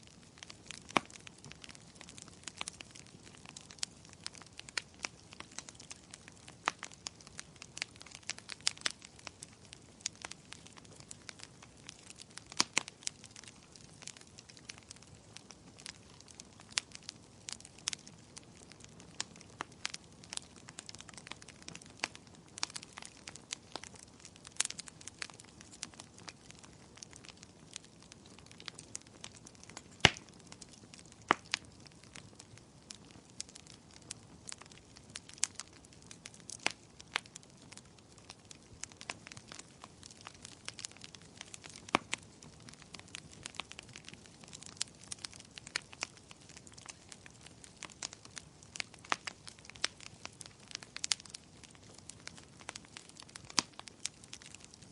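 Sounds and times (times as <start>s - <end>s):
firewood crackling and popping: 0.0s - 54.9s.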